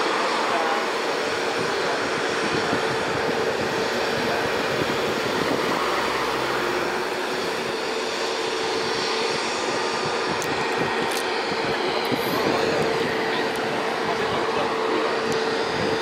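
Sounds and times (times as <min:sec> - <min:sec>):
jet engines at low thrust: 0:00.0 - 0:16.0.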